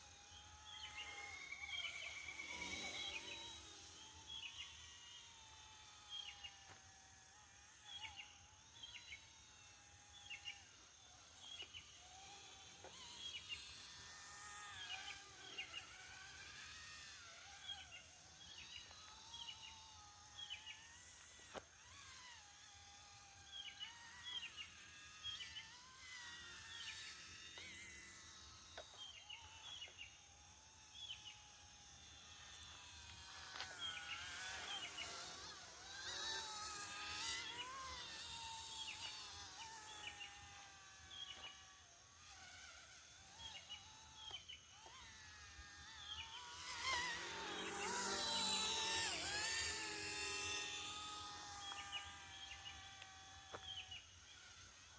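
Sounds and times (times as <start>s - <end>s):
electric rc motor whining: 0.0s - 54.9s.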